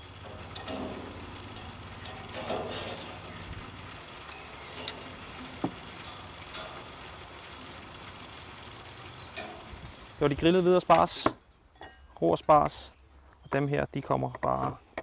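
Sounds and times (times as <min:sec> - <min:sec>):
utensils clinking on grill grate: 0:00.0 - 0:12.9.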